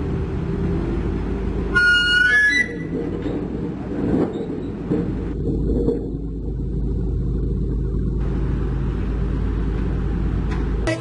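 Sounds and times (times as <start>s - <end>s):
diesel engines idling: 0.0s - 11.0s.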